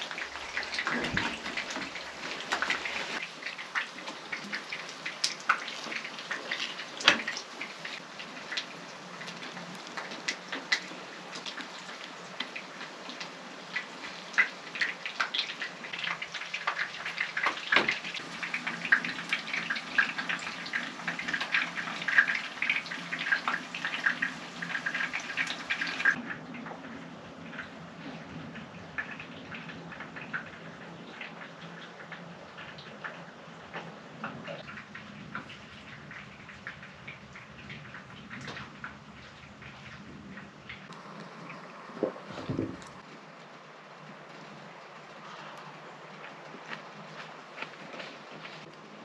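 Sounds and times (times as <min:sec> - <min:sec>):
rain patter: 0:00.0 - 0:49.0.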